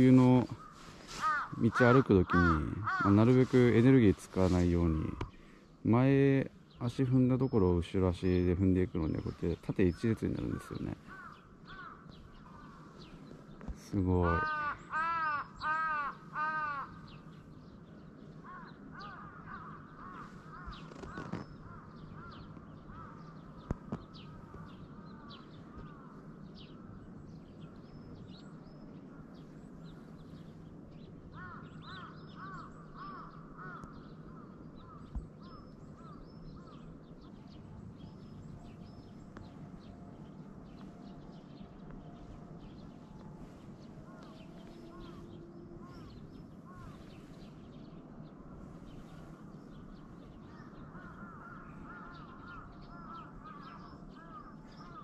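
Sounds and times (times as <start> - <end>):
crows cawing: 0.0 - 5.8, 9.0 - 27.1, 31.0 - 55.0
faint outdoor background: 0.0 - 55.0.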